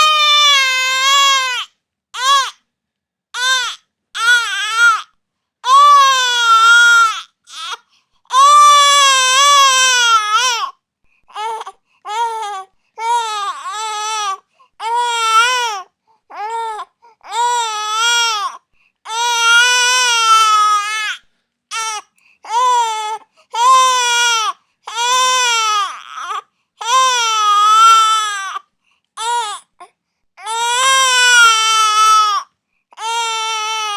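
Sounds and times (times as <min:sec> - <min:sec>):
infant crying: 0:00.0 - 0:02.6, 0:03.4 - 0:10.7, 0:11.3 - 0:28.6, 0:29.2 - 0:33.9.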